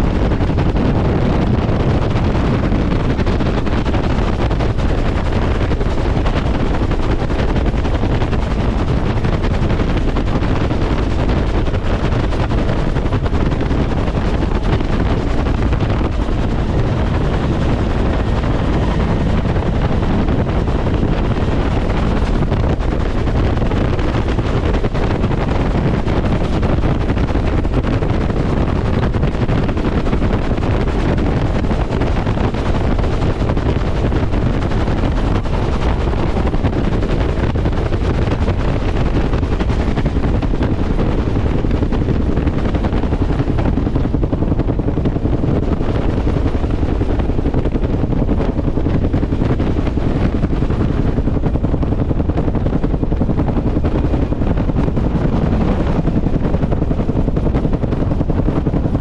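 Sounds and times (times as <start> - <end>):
helicopter rotor and engine drone: 0.0 - 59.0
wind buffeting microphone: 0.0 - 59.0.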